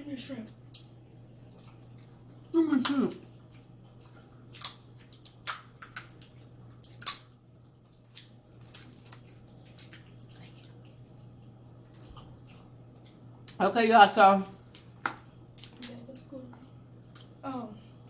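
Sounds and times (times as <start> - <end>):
wet squishing and smacking eating: 0.4 - 18.0.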